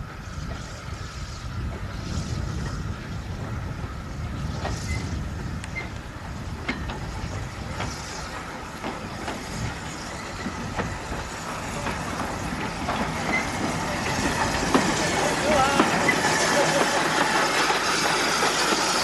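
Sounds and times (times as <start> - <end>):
steam locomotive rumble: 0.0 - 19.0
wheels clicking on rails: 0.0 - 19.0.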